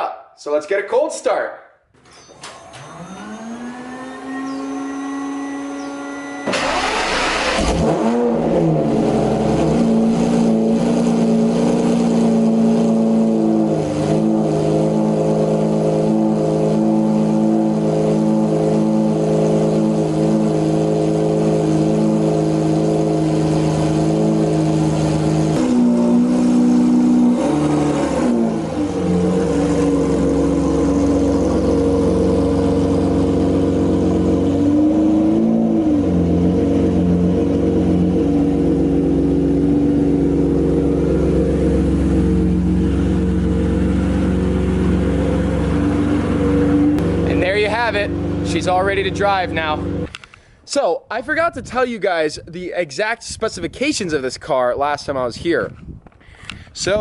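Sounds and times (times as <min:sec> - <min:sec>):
car engine starting and idling: 0:02.0 - 0:50.5.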